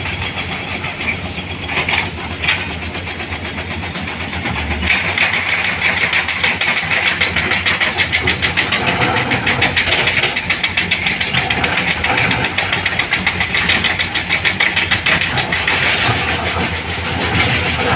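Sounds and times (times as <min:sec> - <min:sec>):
diesel engine chugging: 0:00.0 - 0:17.9.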